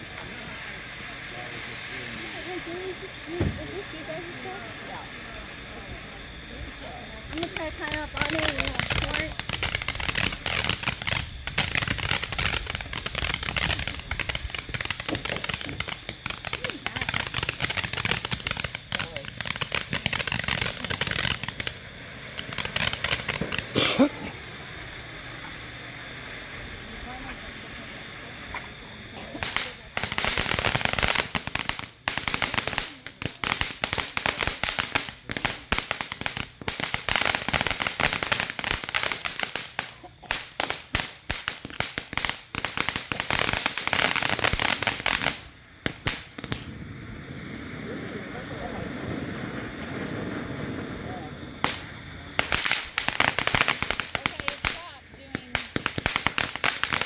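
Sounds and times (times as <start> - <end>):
fireworks crackling: 0.0 - 57.0.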